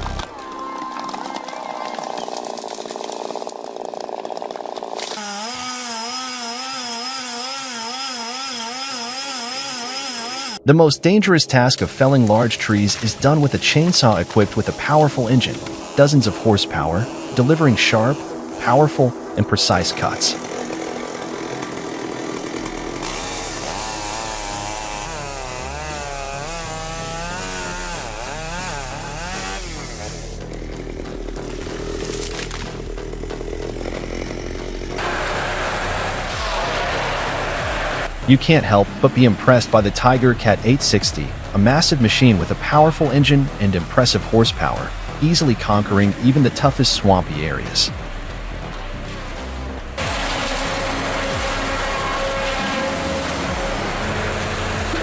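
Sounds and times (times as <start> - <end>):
chainsaw cutting wood: 0.0 - 10.6, 11.8 - 55.0
chainsaw engine screaming: 0.0 - 10.7, 11.8 - 55.0.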